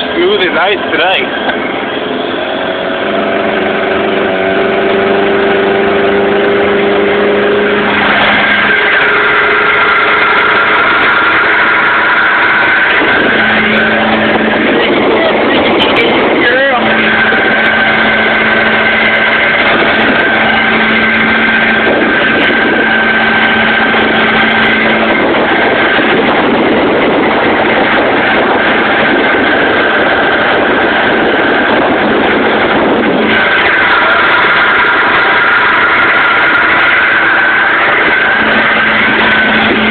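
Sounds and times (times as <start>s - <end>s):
outboard motor running: 0.0s - 39.9s
water rushing along hull: 0.0s - 39.9s.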